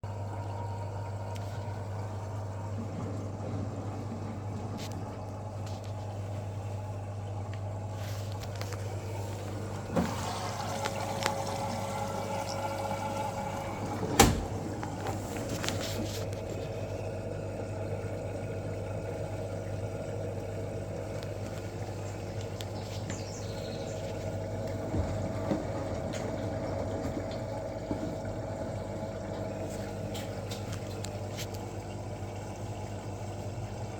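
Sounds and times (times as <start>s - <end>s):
washing machine running: 0.0s - 33.9s.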